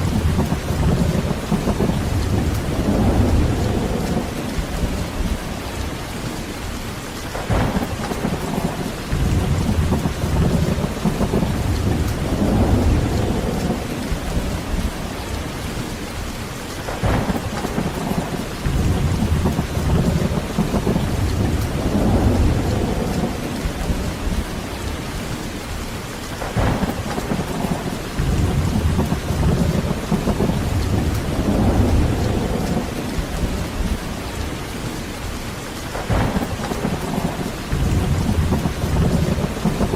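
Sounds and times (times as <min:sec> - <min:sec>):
heavy rain: 0:00.0 - 0:39.9
thunder crack and rumble: 0:00.0 - 0:39.9.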